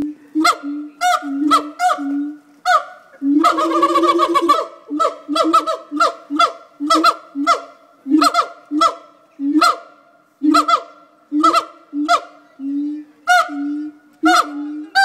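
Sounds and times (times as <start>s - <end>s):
gibbons calling: 0.3s - 15.0s.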